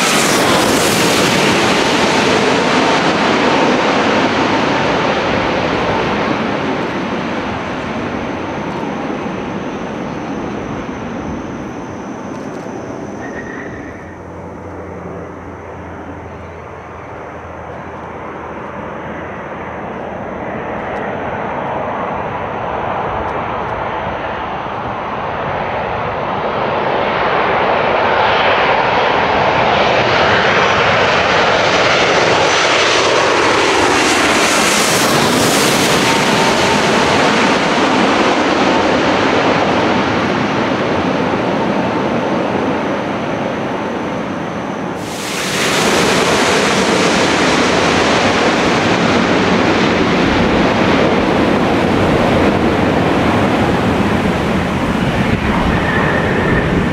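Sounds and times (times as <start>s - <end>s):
jet airliner engine noise: 0.0s - 56.9s
jet engine whine: 0.0s - 56.9s.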